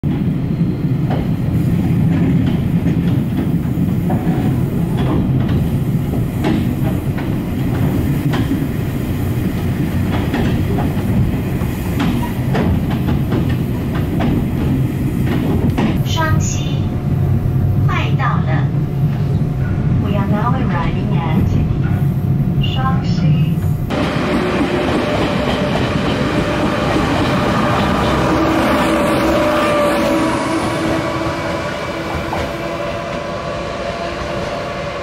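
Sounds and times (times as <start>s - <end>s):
train rumble inside carriage: 0.0s - 35.0s.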